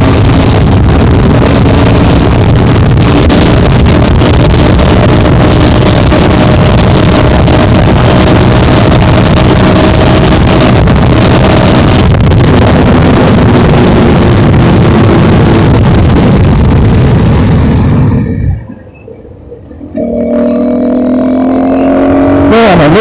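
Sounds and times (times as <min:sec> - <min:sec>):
wind buffeting microphone: 0:00.0 - 0:22.5.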